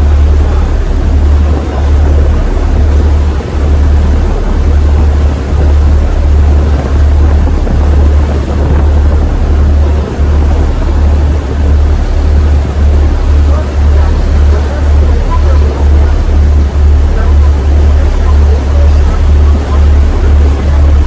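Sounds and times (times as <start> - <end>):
ferry engine low rumble: 0.0 - 21.0
wind noise on microphone: 0.0 - 21.0.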